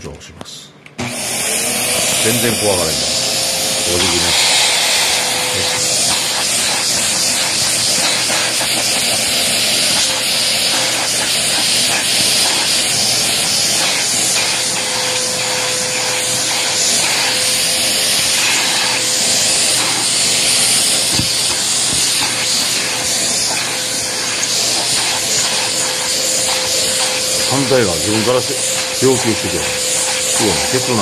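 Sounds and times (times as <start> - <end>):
handheld vacuum cleaner running: 1.0 - 31.0.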